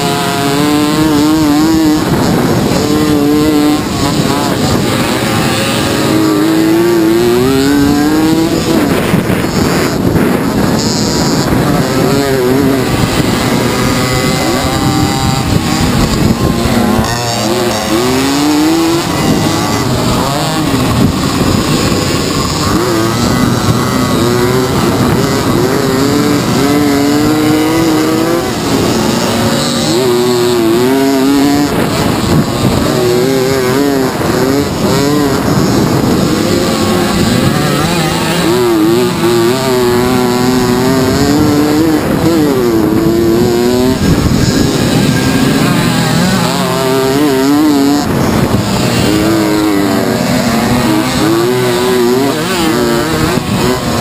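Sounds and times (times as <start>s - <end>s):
moped engines revving: 0.0s - 54.0s.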